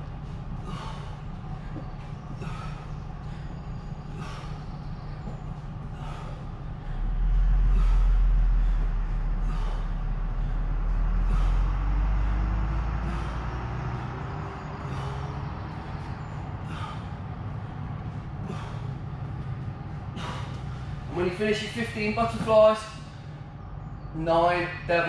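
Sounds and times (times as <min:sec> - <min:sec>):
man breathing heavily: 0:00.0 - 0:24.2
deep low rumble: 0:00.0 - 0:25.0.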